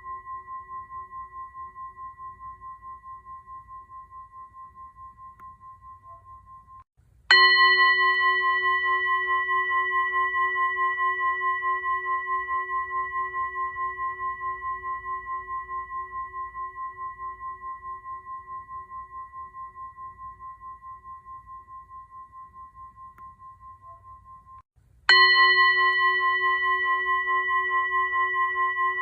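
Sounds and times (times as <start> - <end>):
bell ringing with pulsing wobble: 0.0 - 29.0.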